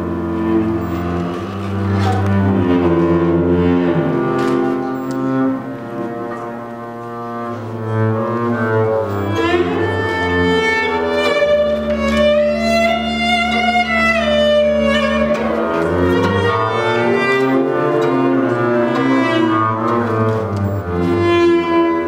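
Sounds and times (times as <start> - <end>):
slow bowed string music: 0.0 - 22.0.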